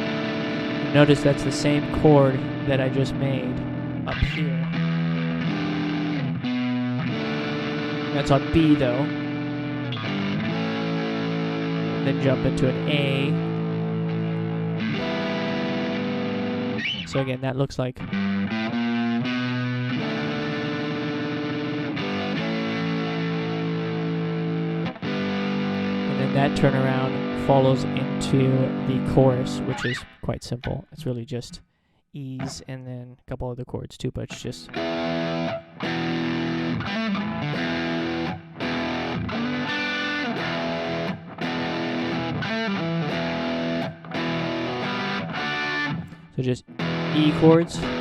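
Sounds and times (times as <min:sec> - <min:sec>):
distorted electric guitar chords: 0:00.0 - 0:30.9, 0:34.6 - 0:48.0.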